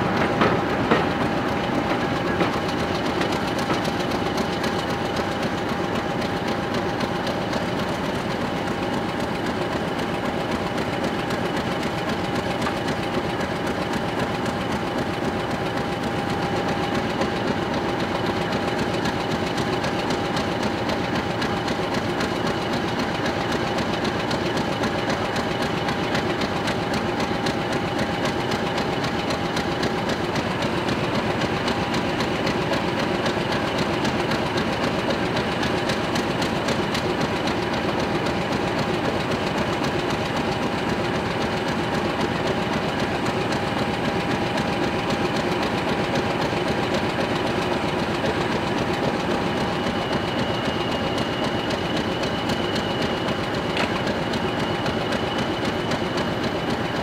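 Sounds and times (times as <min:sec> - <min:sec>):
locomotive engine idling: 0:00.0 - 0:57.0.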